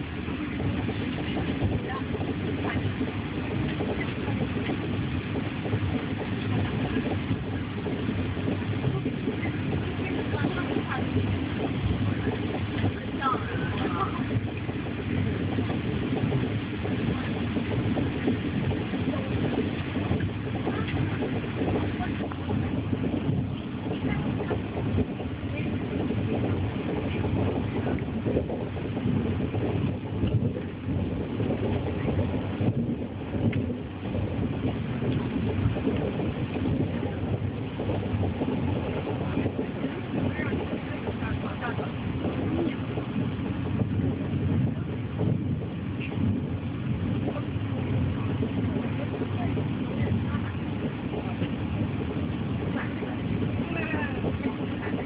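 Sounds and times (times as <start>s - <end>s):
air rushing past carriage: 0.0s - 55.0s
train running low rumble: 0.0s - 55.0s.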